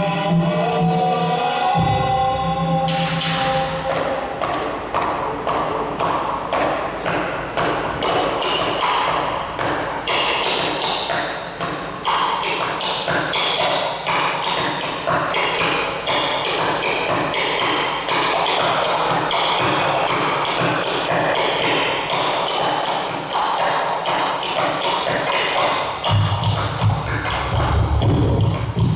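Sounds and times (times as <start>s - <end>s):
percussion ensemble drumming: 0.0s - 28.9s.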